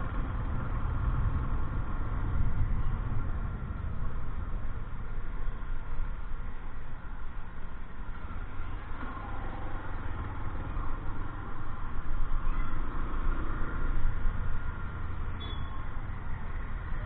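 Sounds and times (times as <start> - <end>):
road traffic rumble: 0.0 - 17.0
vehicle engine: 0.0 - 17.0.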